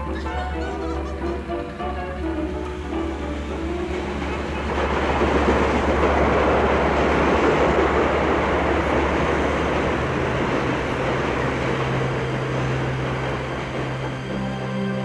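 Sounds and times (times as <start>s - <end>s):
steady rumbling: 0.0s - 15.0s.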